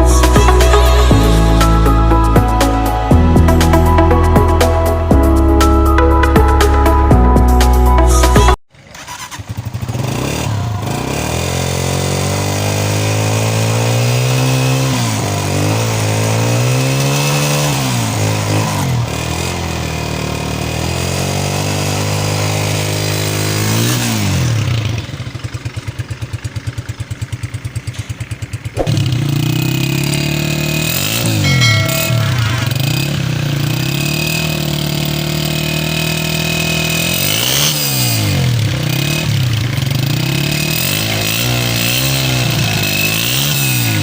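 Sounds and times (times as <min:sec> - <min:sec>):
motorcycle engine revving: 0:08.7 - 0:44.0.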